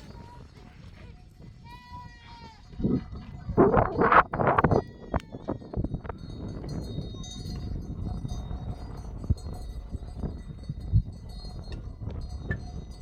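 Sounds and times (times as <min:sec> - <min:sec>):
livestock bells clinking: 0:00.0 - 0:13.0.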